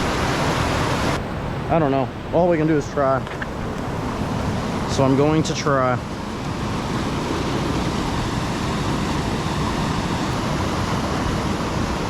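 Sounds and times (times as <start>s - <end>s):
water rushing through spillway: 0.0s - 12.0s.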